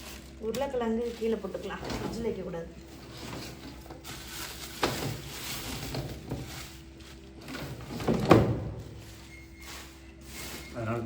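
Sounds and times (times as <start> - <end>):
groceries rustling: 0.0 - 11.0.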